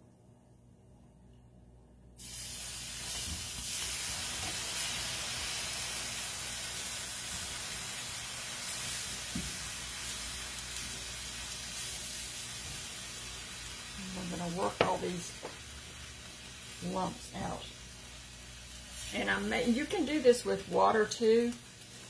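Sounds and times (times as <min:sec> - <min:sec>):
milk hissing in hot pan: 0:02.2 - 0:22.0.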